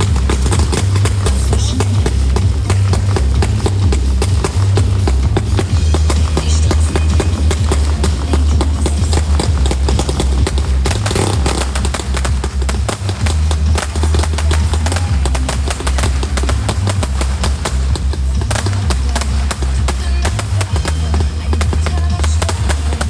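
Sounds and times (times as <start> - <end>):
fireworks popping and crackling: 0.0 - 23.0
music with heavy bass: 0.0 - 23.0.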